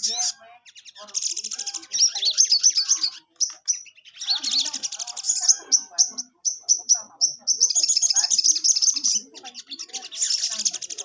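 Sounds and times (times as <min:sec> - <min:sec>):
sharp bird chirps: 0:00.0 - 0:11.0
songbird trilling: 0:00.0 - 0:11.0.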